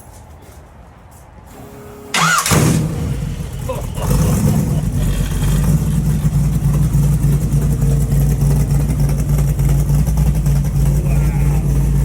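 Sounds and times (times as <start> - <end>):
car engine idling: 1.6 - 12.0.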